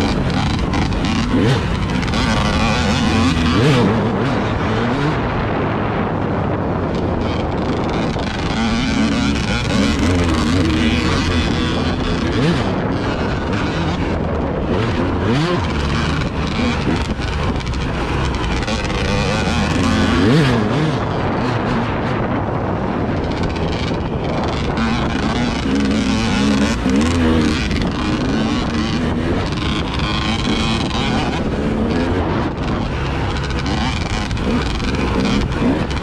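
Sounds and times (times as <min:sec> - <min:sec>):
vehicle engine running: 0:00.0 - 0:36.0
wind on microphone: 0:00.0 - 0:36.0.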